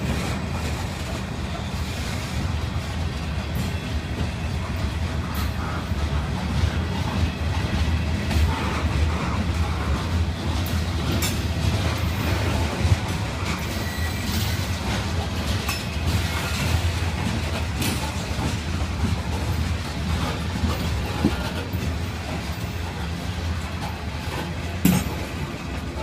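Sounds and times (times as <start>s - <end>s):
freight train rumble: 0.0s - 26.0s
wheels clicking on rails: 0.0s - 26.0s.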